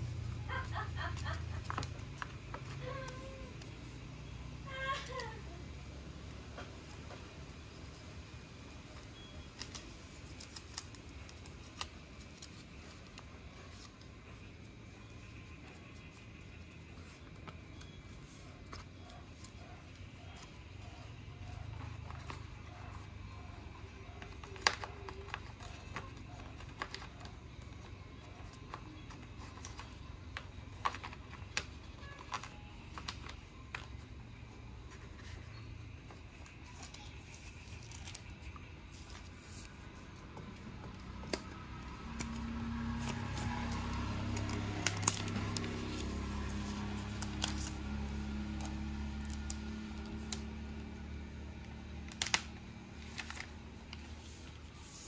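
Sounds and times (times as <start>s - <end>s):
faint background music: 0.0s - 55.0s.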